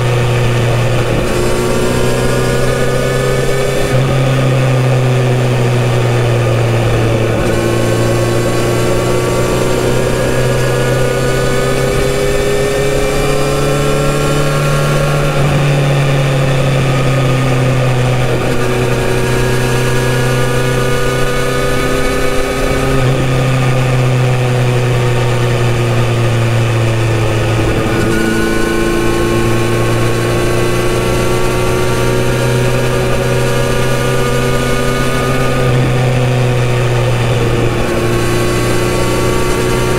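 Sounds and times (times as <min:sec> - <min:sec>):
motorcycle engine in tunnel: 0:00.0 - 0:39.9.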